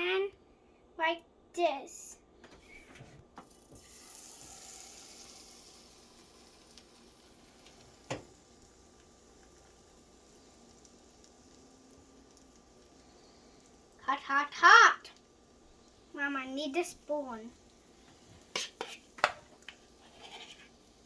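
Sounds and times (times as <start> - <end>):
batter sizzling in frying pan: 2.7 - 21.0.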